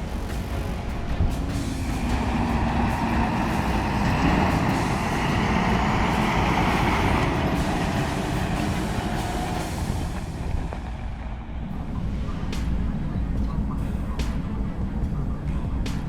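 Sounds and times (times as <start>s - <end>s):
heavy truck engine running: 0.0s - 16.0s
road and tyre noise: 0.0s - 16.0s.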